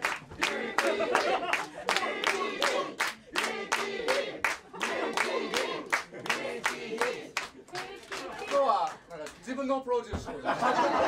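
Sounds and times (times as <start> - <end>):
audience clapping in rhythm: 0.0 - 9.4.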